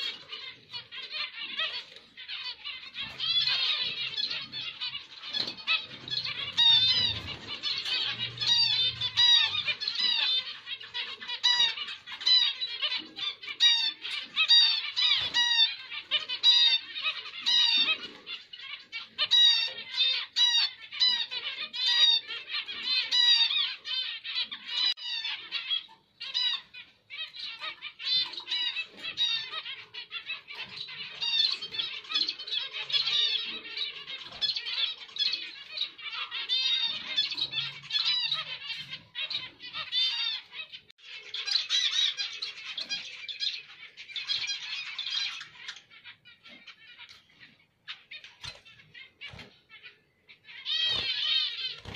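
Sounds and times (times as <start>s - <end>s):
finches chirping: 0.0s - 51.9s.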